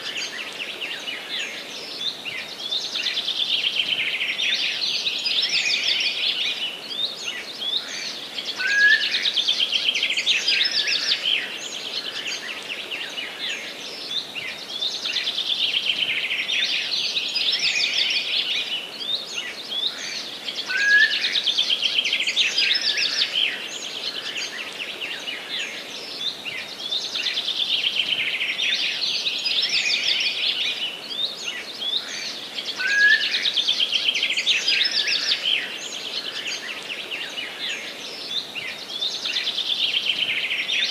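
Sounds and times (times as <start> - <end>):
faint background hiss: 0.0 - 40.9
songbirds singing: 0.0 - 40.9.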